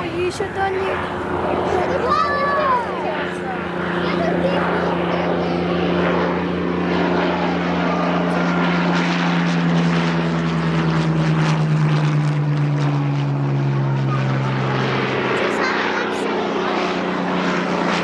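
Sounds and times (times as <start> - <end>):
propeller aircraft engine running: 0.0 - 18.0.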